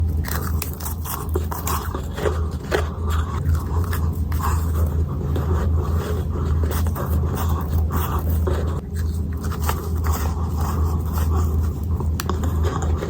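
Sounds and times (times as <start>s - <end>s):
ice being chewed: 0.0s - 13.0s
steady low hum: 0.0s - 13.0s.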